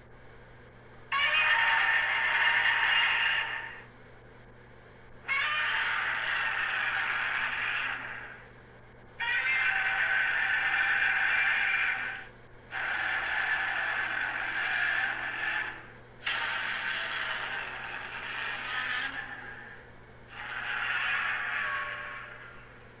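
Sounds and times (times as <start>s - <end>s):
screeching monster roar: 1.1s - 3.8s, 5.3s - 8.4s, 9.2s - 22.8s.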